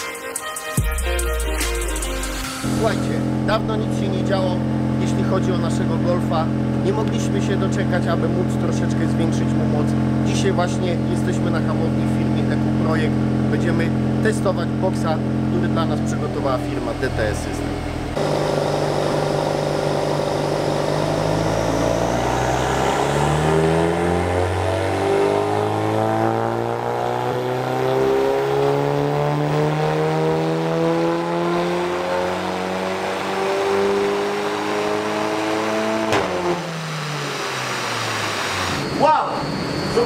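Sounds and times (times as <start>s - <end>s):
car engine revving on a dyno: 2.6s - 40.0s.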